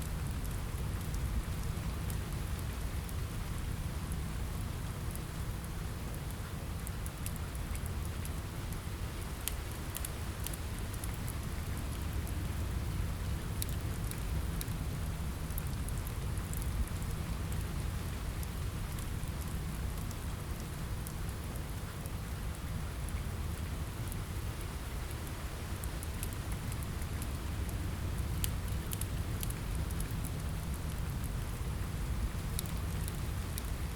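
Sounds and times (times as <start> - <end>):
steady rain: 0.0 - 33.9
wood fire crackling: 0.2 - 33.9.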